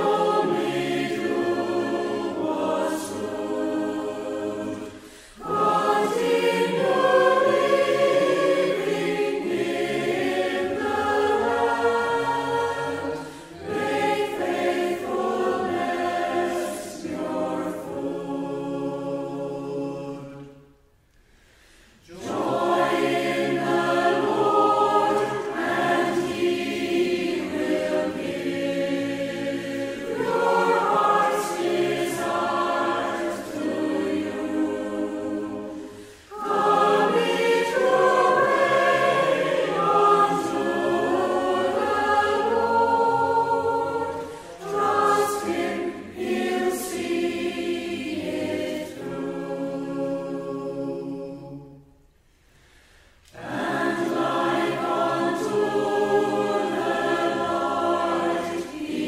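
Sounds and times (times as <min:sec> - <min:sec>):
group singing unaccompanied psalm: 0:00.0 - 0:59.0.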